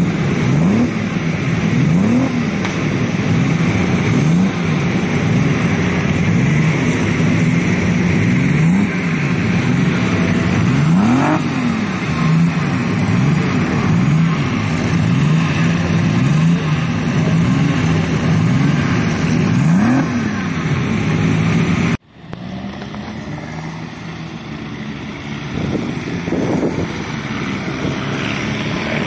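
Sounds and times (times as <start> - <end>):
steady engine rumble: 0.0 - 29.0
vintage engines revving past: 0.0 - 29.0.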